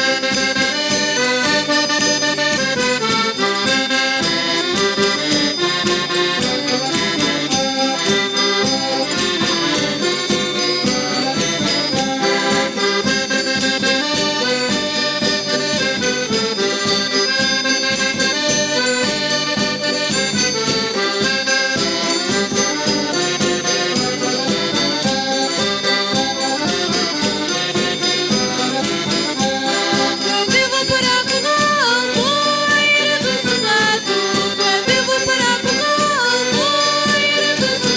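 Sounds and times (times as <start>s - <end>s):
instrumental folk dance music: 0.0s - 37.9s.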